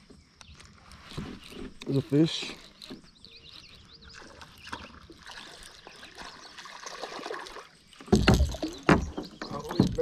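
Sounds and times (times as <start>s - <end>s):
creek water trickling: 0.4s - 10.0s.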